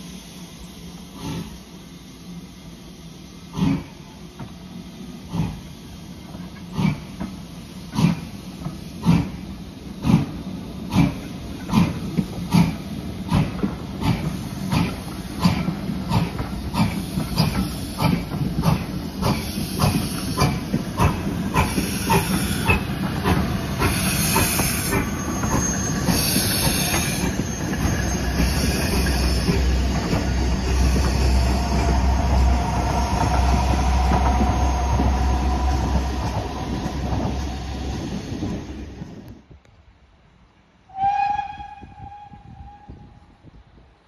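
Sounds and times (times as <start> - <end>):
hiss of steam: 0.0 - 39.3
steam locomotive rumble: 0.0 - 39.6.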